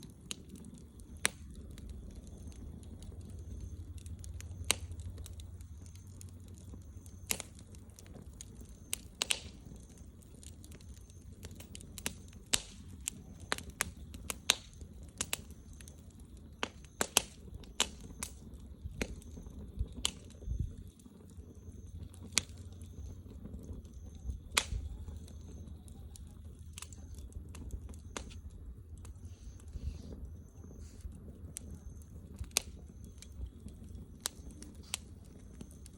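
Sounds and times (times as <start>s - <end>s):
bonfire crackling: 0.0s - 35.9s.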